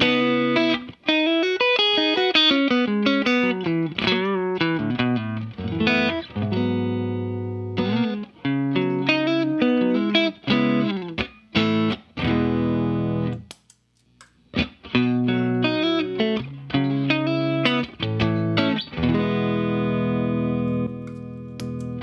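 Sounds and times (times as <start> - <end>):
electric guitar notes and chords: 0.0 - 13.4, 14.6 - 22.0.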